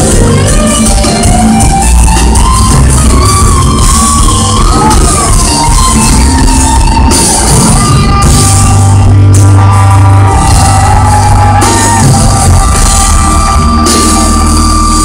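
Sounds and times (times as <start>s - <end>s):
bending melody line: 0.0s - 15.0s
rock band with drum kit: 0.0s - 15.0s.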